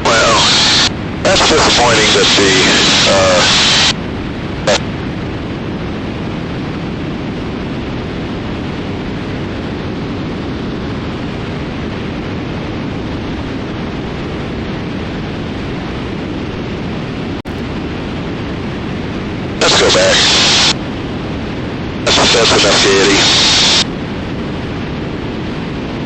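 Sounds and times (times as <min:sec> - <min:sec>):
airplane engine and airflow rush: 0:00.0 - 0:26.0.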